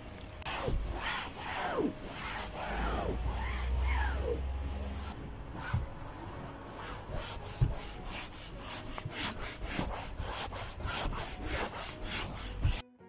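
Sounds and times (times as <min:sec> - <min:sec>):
rhythmic scraping strokes: 0:00.4 - 0:12.8.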